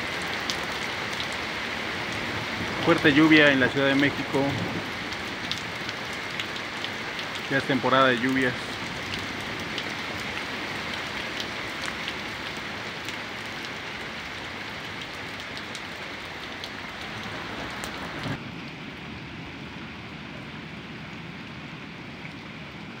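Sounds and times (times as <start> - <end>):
raindrops tapping close by: 0.0 - 18.8
heavy rain pouring: 0.0 - 23.0.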